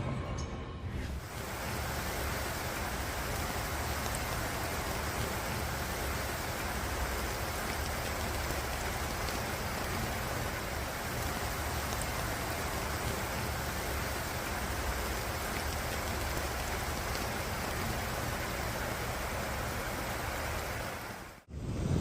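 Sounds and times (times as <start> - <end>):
heavy rain falling: 1.1 - 21.5.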